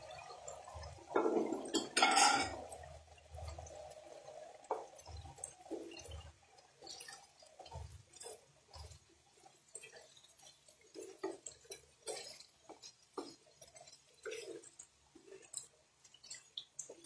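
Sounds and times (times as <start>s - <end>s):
spatula stirring pasta in a pan: 0.0s - 17.0s.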